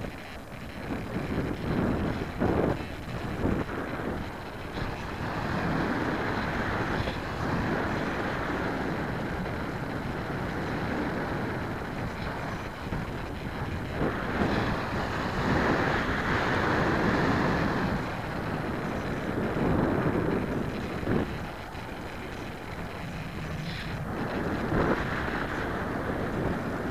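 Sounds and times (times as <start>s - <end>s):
airflow rushing over microphone: 0.0s - 26.9s.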